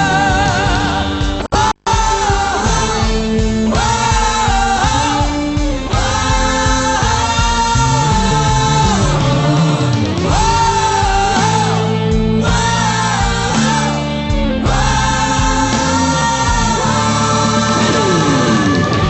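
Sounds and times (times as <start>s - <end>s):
guitar and bass band: 0.0s - 19.0s
pop rock song with singing: 0.0s - 19.0s.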